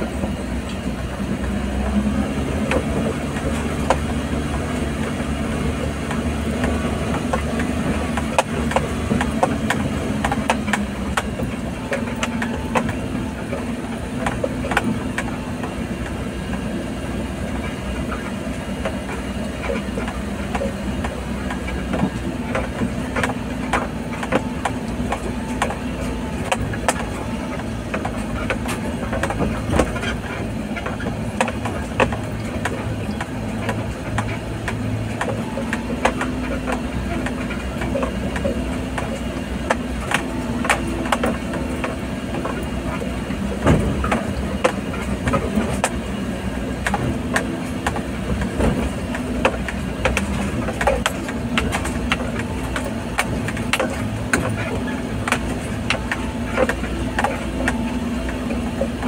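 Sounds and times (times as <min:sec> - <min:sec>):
vehicle engine under load: 0:00.0 - 0:59.0.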